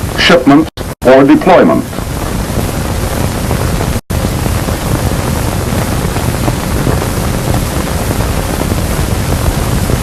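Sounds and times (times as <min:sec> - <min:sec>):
old film soundtrack hiss and rumble: 0:00.0 - 0:10.0.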